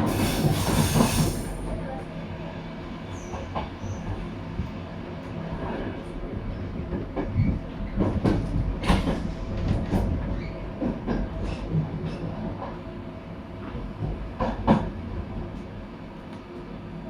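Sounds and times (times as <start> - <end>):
low train rumble: 0.0 - 17.0.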